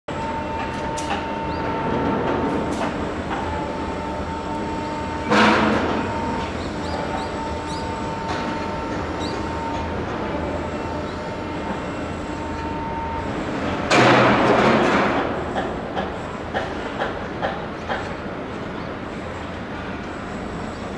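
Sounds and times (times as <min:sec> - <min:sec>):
construction machinery rumble: 0:00.1 - 0:20.9
steady machine whine: 0:00.1 - 0:20.9.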